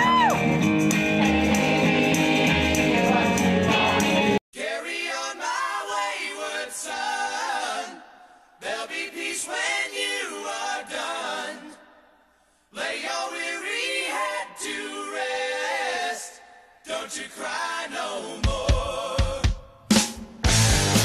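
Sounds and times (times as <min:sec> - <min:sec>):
voices singing unaccompanied: 0:01.0 - 0:19.8.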